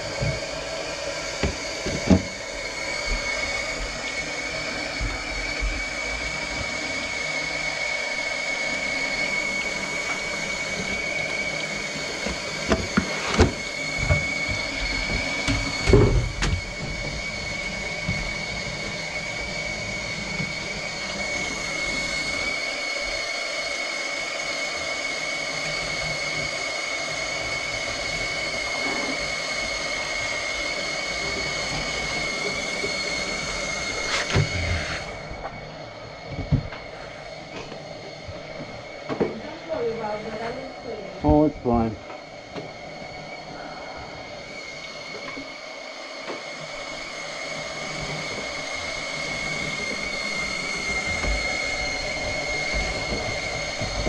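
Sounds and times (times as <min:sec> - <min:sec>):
mechanical hum with high whine: 0:00.0 - 0:54.0.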